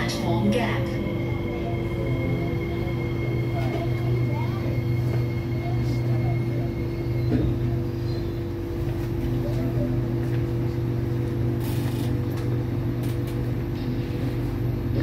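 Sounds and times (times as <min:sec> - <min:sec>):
train electrical hum: 0:00.0 - 0:15.0.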